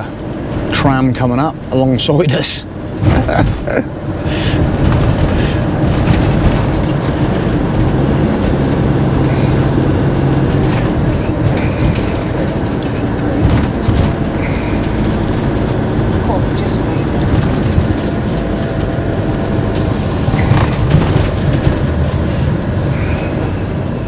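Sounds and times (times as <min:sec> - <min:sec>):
engine and road noise: 0:00.0 - 0:24.0
low engine hum: 0:00.0 - 0:24.0.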